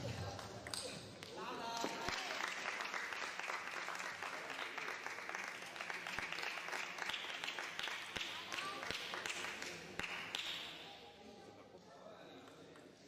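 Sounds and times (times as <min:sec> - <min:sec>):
spectators applauding: 0:00.0 - 0:10.6.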